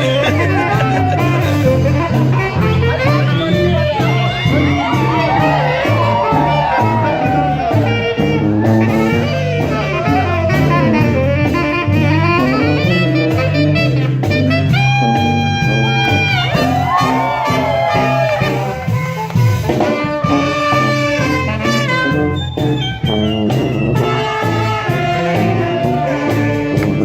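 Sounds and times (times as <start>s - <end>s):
brass band playing jazzy tune: 0.0s - 27.0s.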